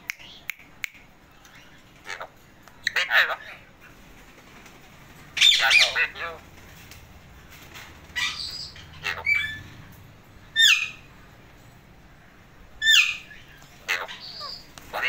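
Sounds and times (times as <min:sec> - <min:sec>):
parakeets squawking and chattering: 0:01.3 - 0:11.5, 0:12.7 - 0:15.0.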